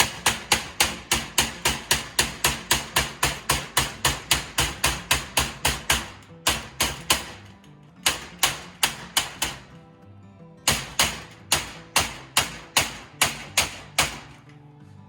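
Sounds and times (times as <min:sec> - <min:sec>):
hammer striking sheet metal: 0:00.0 - 0:09.7, 0:10.7 - 0:14.4
guitar background music: 0:00.0 - 0:15.0.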